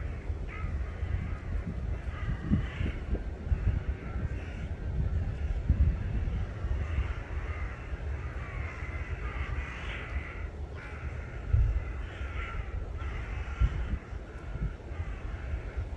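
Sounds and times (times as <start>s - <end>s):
crows cawing: 0.0s - 15.9s
steady low rumble: 0.0s - 15.9s.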